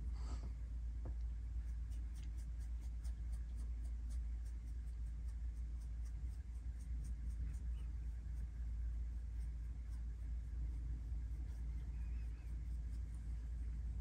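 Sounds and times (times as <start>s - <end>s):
steady low hum: 0.0s - 14.0s
brush bristles scratching fur: 1.6s - 13.6s.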